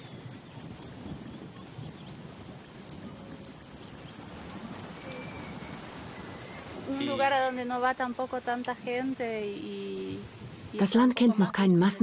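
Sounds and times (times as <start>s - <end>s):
water dripping off leaves: 0.0s - 11.3s
rain falling on foliage: 0.0s - 12.0s.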